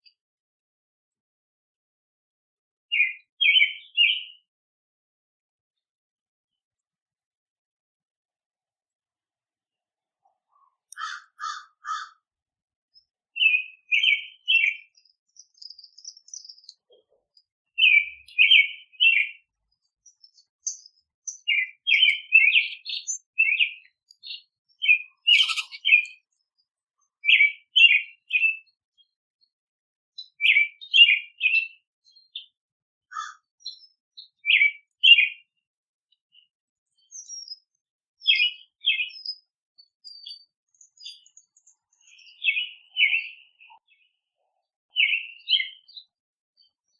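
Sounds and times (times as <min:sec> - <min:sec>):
songbirds chirping: 0:02.9 - 0:04.6, 0:08.8 - 0:12.3, 0:12.9 - 0:46.9.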